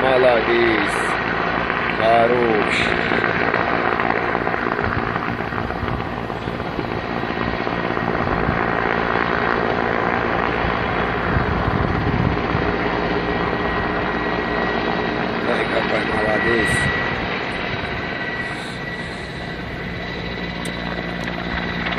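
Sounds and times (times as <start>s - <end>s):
helicopter engine and rotor: 0.0s - 21.9s.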